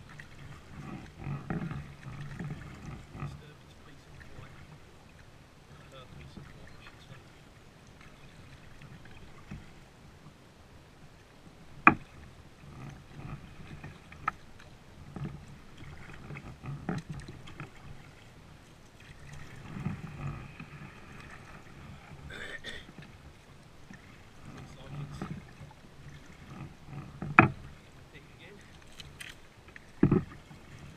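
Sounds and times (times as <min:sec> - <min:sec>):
paddle strokes swishing in water: 0:00.0 - 0:30.9.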